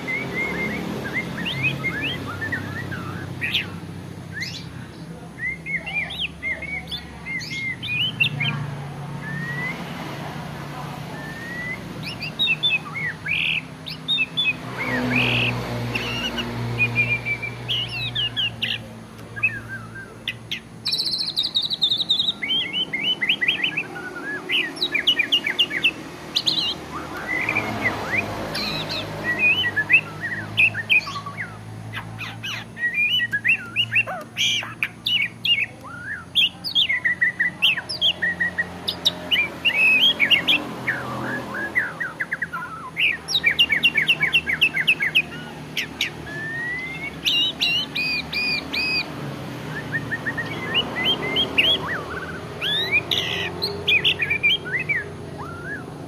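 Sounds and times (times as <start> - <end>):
songbird singing varied song: 0.0 - 56.0.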